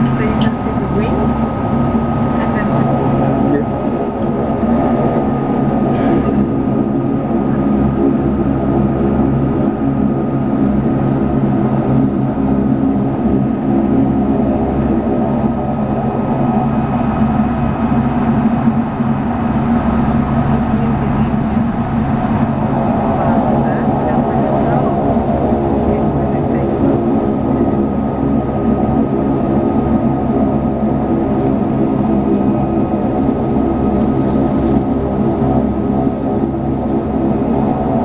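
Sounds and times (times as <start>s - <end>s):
turboprop cabin drone: 0.0s - 38.0s.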